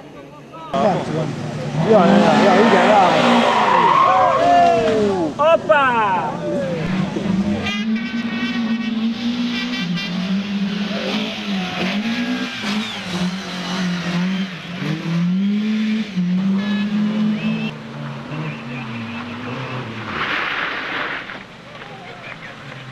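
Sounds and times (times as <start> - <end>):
racing car engine revving: 0.8 - 5.3, 6.6 - 21.5.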